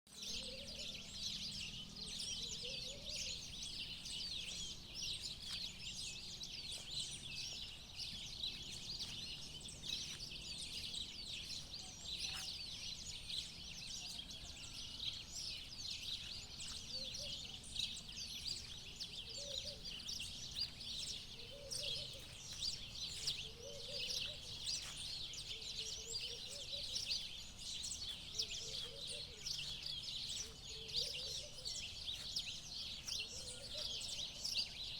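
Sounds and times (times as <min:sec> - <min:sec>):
birds chirping and twittering: 0:00.1 - 0:34.9.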